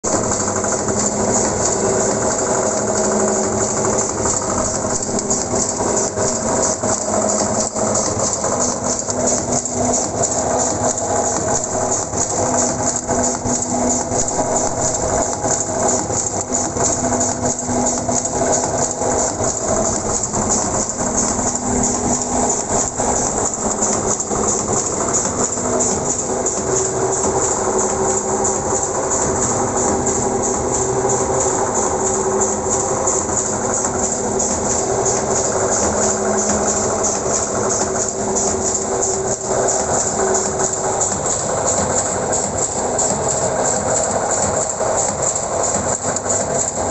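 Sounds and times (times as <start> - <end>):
motor hum: 0.0 - 46.9
packing machine clatter: 0.1 - 46.9.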